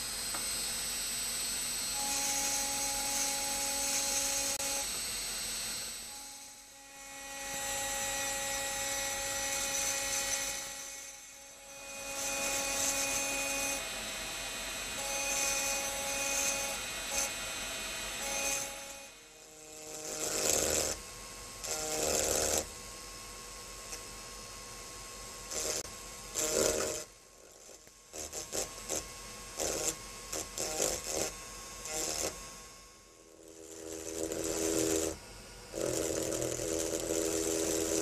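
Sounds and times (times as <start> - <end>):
engraving drill whine: 0.0 - 38.0.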